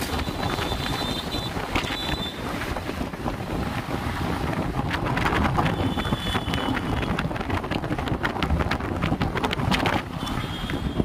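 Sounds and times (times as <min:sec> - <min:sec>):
road and traffic rumble: 0:00.0 - 0:11.0
wind buffeting microphone: 0:00.0 - 0:11.0.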